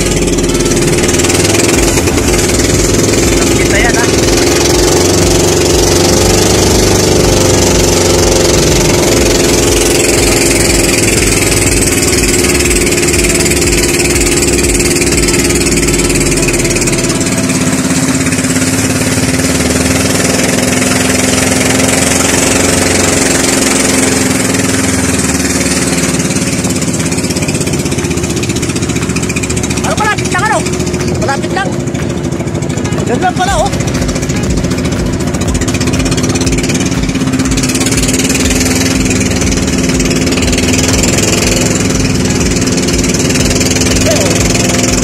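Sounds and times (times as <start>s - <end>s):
motor boat engine running: 0.0s - 45.0s
water rushing along hull: 0.0s - 45.0s.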